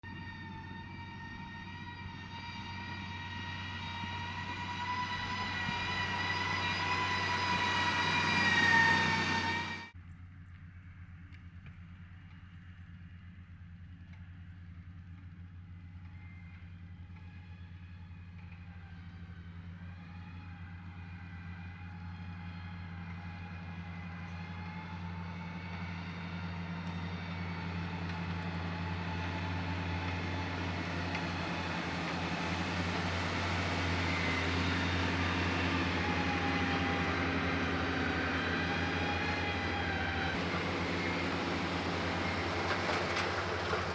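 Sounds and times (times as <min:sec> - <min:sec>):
diesel earthmoving machine engine: 0:00.0 - 0:43.9.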